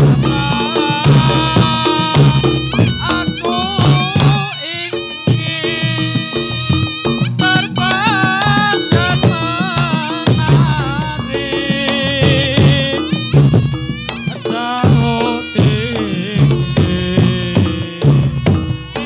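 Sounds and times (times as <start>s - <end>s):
drums beating: 0.0s - 19.0s
wavering melody line: 0.0s - 19.0s.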